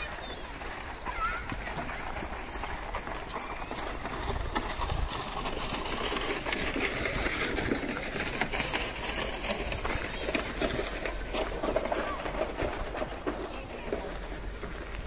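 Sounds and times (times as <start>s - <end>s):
steady traffic noise: 0.0s - 15.0s.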